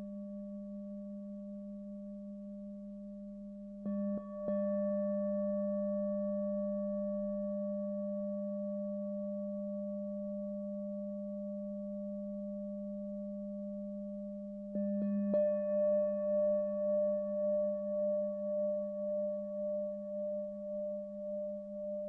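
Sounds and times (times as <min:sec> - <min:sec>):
singing bowl ringing: 0:00.0 - 0:22.0.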